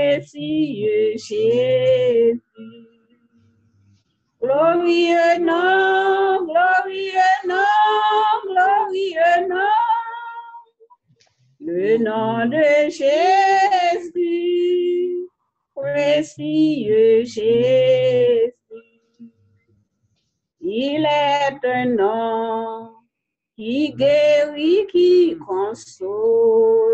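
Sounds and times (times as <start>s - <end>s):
person singing a hymn unaccompanied: 0.0s - 3.0s, 4.4s - 10.6s, 11.6s - 18.9s, 20.6s - 23.0s, 23.6s - 26.9s.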